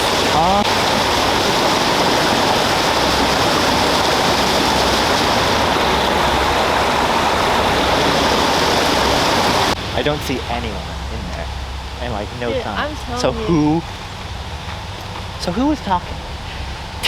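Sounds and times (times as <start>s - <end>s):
rushing flowing water: 0.0s - 17.0s.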